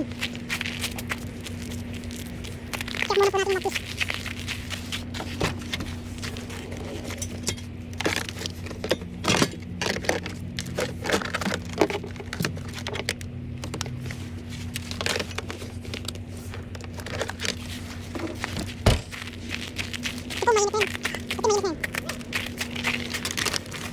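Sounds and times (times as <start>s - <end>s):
hands rattling fuses: 0.0s - 23.9s
steady low hum: 0.0s - 23.9s.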